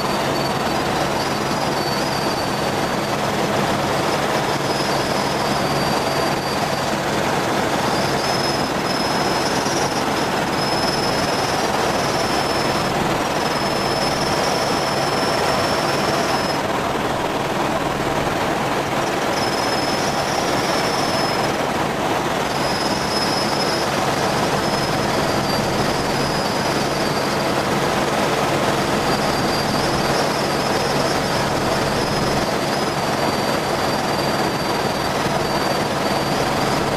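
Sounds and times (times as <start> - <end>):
helicopter engine and rotor: 0.0 - 36.9
high whine: 0.0 - 36.9.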